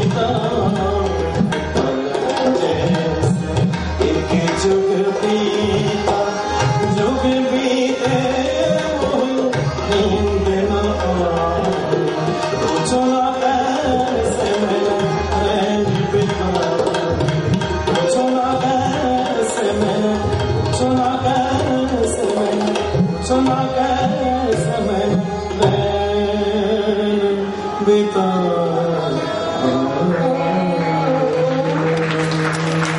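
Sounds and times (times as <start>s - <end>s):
harmonium melody: 0.0s - 32.9s
tabla playing a rhythm: 0.0s - 32.9s.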